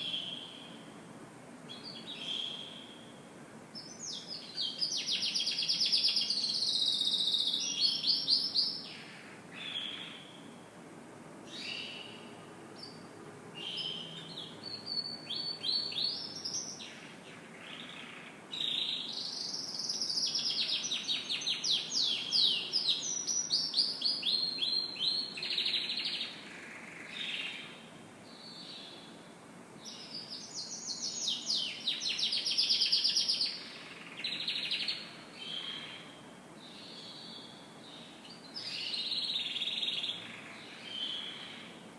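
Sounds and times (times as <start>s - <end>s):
canary singing trills: 0.0s - 0.8s, 1.7s - 3.2s, 3.8s - 10.6s, 13.6s - 29.2s, 29.8s - 41.8s.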